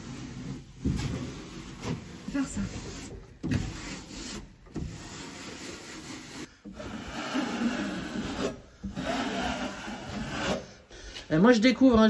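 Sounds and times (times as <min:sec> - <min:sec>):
wallpaper being smoothed by hand: 0:00.0 - 0:10.9.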